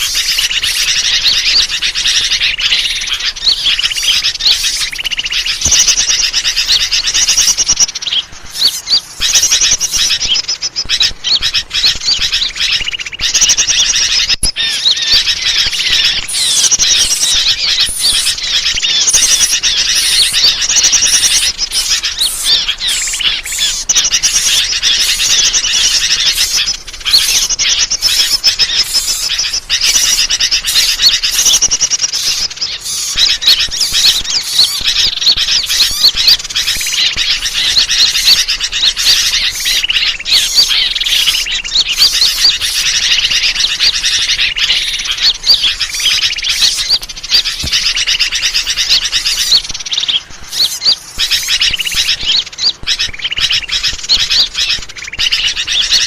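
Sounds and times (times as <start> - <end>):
chorus of songbirds chirping: 0.0 - 56.0.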